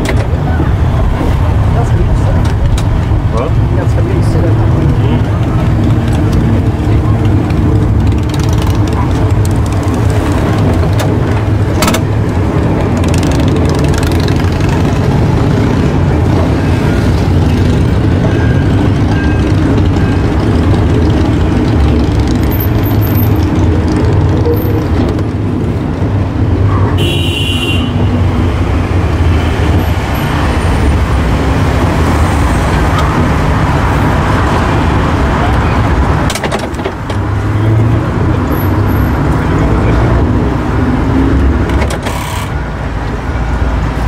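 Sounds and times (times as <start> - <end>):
tram motors and wheels rumbling: 0.0 - 44.0.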